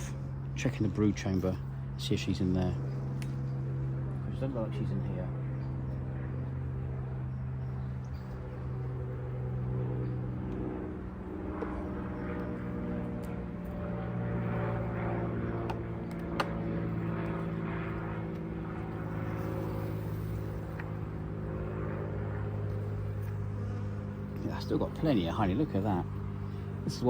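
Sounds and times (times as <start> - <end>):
bees humming in a hive: 0.0 - 27.0.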